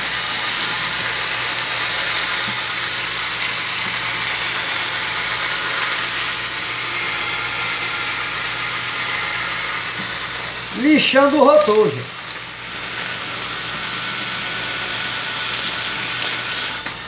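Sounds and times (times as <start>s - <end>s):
drill motor hum: 0.0s - 17.0s.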